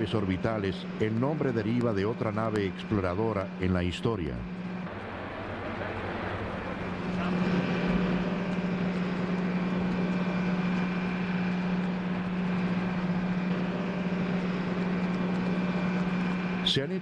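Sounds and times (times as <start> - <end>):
vehicle low hum: 0.0 - 17.0.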